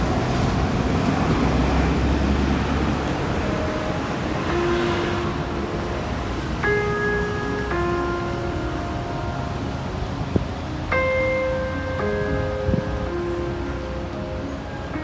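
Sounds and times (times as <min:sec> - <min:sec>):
soft music with long notes: 0:00.0 - 0:15.0
steady rumbling noise: 0:00.0 - 0:15.0.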